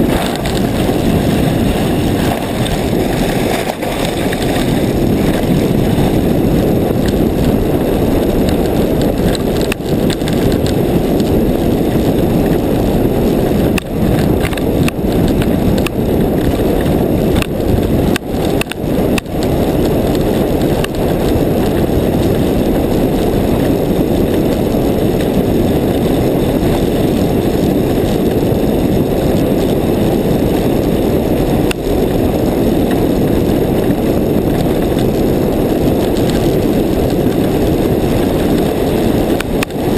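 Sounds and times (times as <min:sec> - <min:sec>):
skis scraping over snow: 0:00.0 - 0:39.9
wind on microphone: 0:00.0 - 0:39.9.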